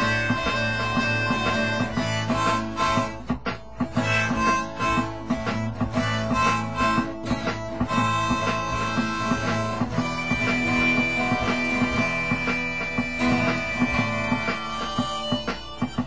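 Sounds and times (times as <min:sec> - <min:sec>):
harmonica playing blues: 0:00.0 - 0:16.0
strummed acoustic guitar: 0:00.0 - 0:16.0.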